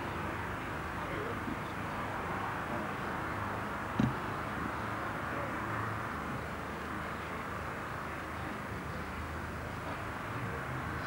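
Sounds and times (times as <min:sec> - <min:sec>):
outdoor background rumble and hiss: 0:00.0 - 0:11.0.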